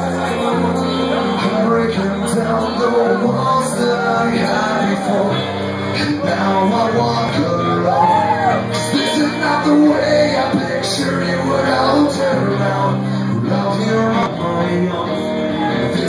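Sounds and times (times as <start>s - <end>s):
lead vocalist singing and shouting: 0.0s - 16.0s
live rock band playing: 0.0s - 16.0s.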